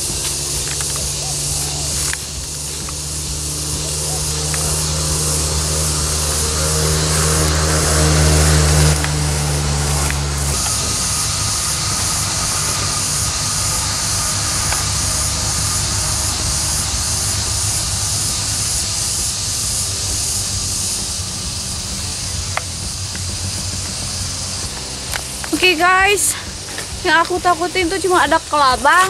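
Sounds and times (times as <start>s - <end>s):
high-pitched insect drone: 0.0s - 29.0s
low rumble: 0.0s - 29.0s.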